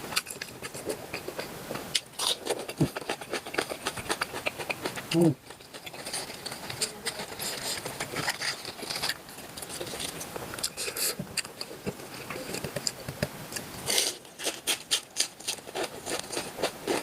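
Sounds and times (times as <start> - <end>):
wet chewing mouth sounds: 0.0 - 17.0.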